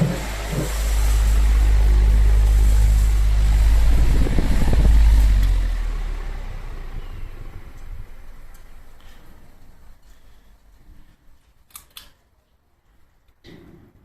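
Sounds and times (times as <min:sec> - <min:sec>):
electric fan wind rumble: 0:00.0 - 0:12.0.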